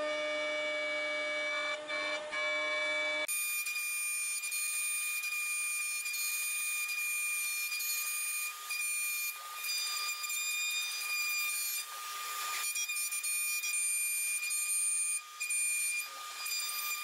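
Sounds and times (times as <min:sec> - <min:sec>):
cnc router whining: 0:00.0 - 0:17.0.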